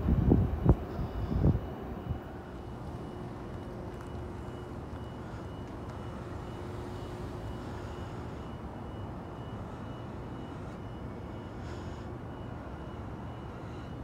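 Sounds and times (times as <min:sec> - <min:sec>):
faint high whine: 0:00.0 - 0:14.0
steady hum: 0:00.0 - 0:14.0.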